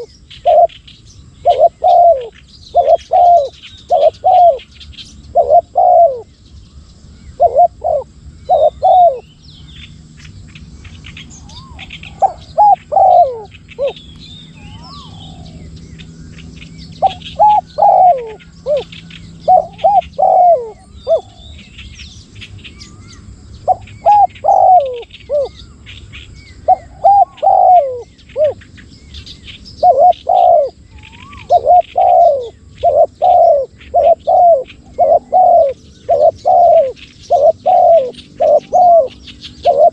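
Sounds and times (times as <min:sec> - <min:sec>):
doves cooing: 0:00.0 - 0:00.8, 0:01.4 - 0:06.3, 0:07.2 - 0:09.3, 0:10.6 - 0:39.9
small birds chirping: 0:00.0 - 0:39.9.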